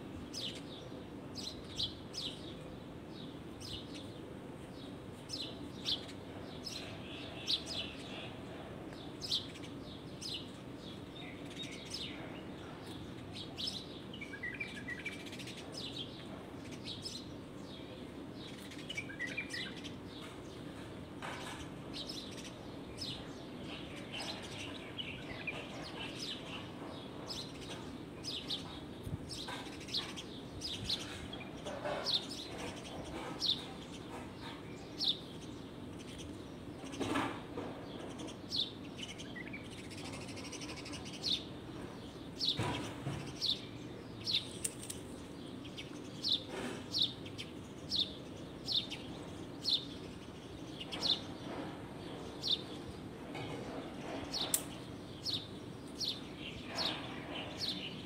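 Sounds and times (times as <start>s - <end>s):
low background noise: 0.0s - 58.0s
songbirds chirping: 0.0s - 58.0s.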